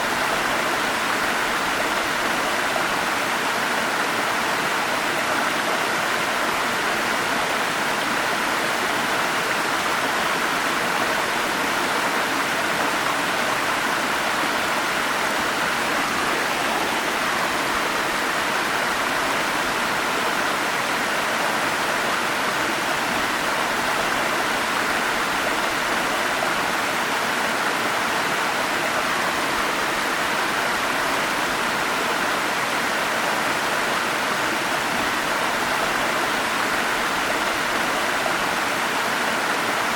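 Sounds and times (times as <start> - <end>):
stream rushing over waterfall: 0.0 - 39.9.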